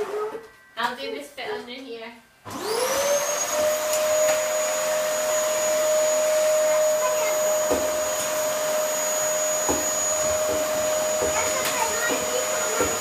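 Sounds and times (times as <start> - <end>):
vacuum cleaner motor whining: 0.0 - 0.5, 2.5 - 13.0.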